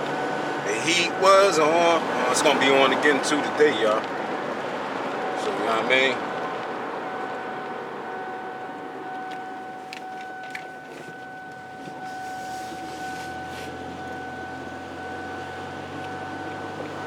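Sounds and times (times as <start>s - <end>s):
thin high whine: 0.0s - 4.1s, 7.0s - 17.0s
car interior running noise: 0.0s - 17.0s.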